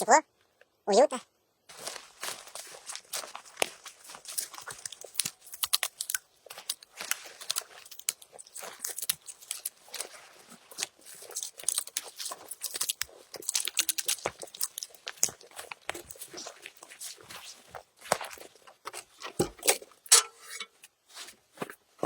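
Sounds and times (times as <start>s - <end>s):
kindling crunching and tearing: 1.7s - 21.3s.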